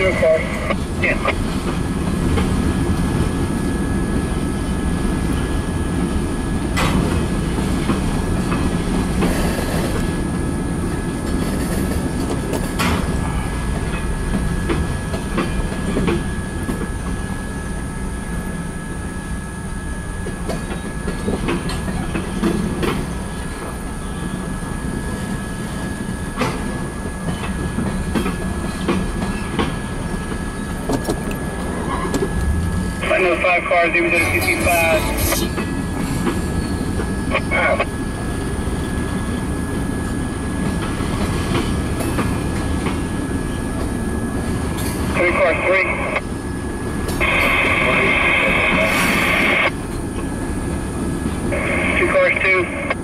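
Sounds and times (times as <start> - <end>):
freight train wheels rumbling: 0.0 - 53.0.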